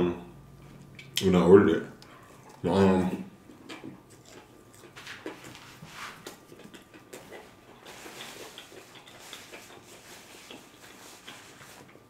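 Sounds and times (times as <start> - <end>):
man chewing food: 1.9 - 12.0.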